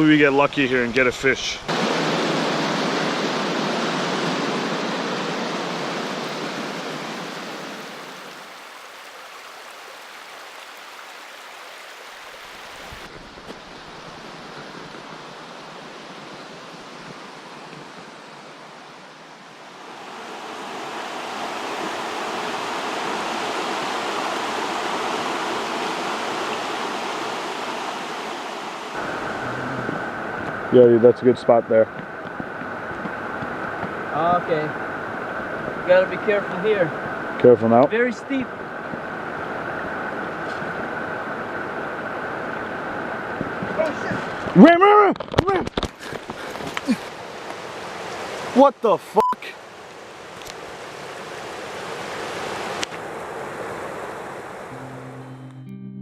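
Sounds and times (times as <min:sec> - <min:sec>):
river water rushing over rapids: 0:01.7 - 0:30.8, 0:32.0 - 0:44.7, 0:46.0 - 0:55.2.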